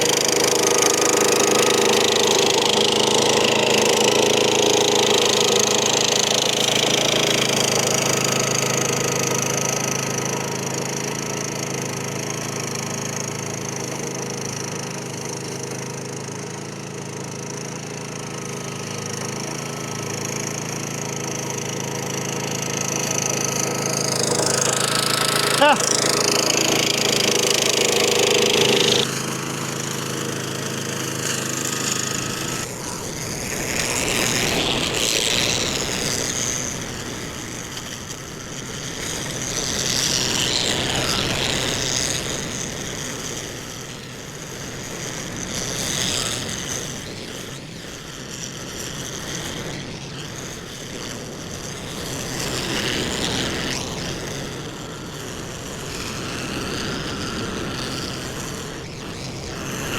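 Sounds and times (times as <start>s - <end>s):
lawn mower engine cutting grass: 0.0s - 59.9s.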